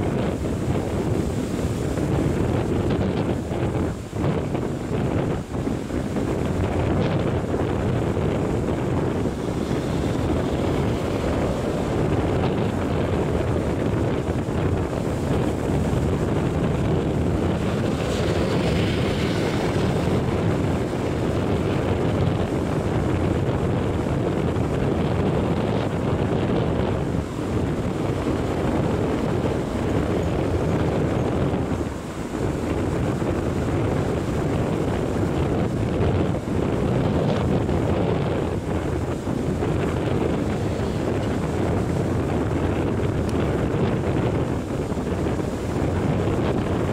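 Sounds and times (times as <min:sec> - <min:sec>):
wind rumbling on microphone: 0:00.0 - 0:46.9.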